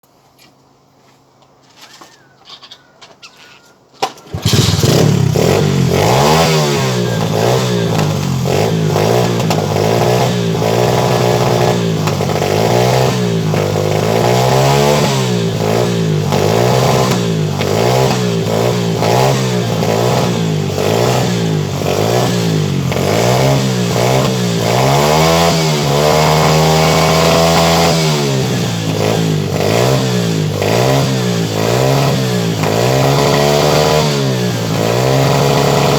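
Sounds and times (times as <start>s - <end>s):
motorbike engine revving: 4.3s - 35.9s.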